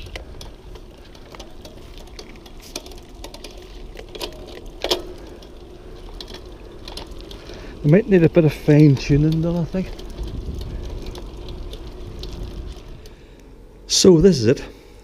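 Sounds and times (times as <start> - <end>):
bicycle gears clicking: 0.0 - 13.8.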